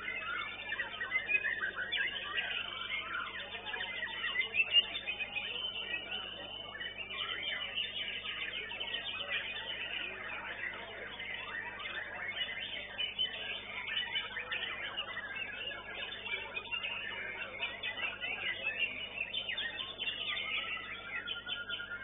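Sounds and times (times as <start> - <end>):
birds singing rapid whistles: 0.0 - 22.0.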